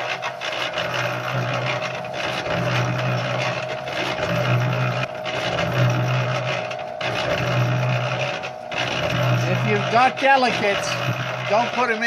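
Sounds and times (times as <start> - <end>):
low pulsing hum: 0.0 - 11.8
cement mixer motor whining: 0.0 - 12.0
laundry churning in drum: 0.0 - 12.0.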